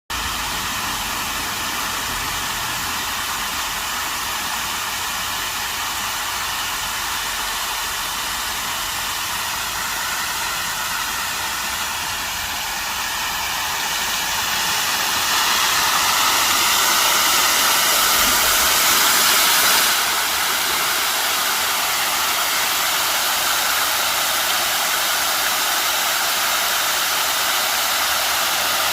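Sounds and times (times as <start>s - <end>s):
running water rushing: 0.1s - 28.9s.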